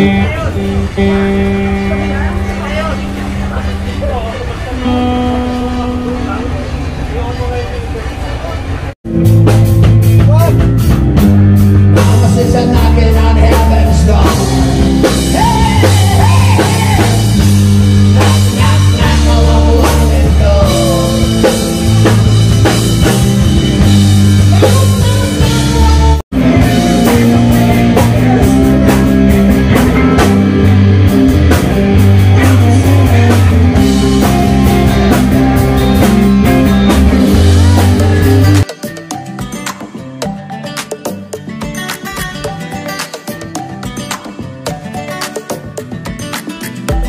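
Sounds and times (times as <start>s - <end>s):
rock music with singing: 0.0s - 6.4s, 9.1s - 47.0s.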